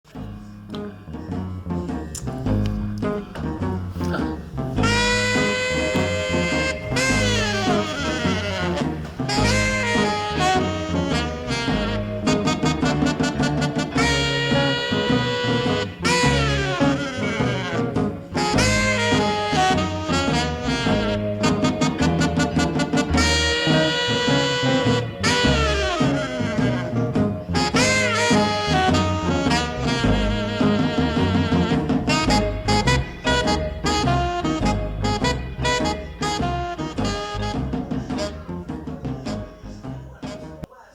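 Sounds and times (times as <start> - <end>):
walking bass line: 0.0 - 40.7
horn stabs: 0.1 - 40.7
upbeat swing jazz: 0.1 - 40.7.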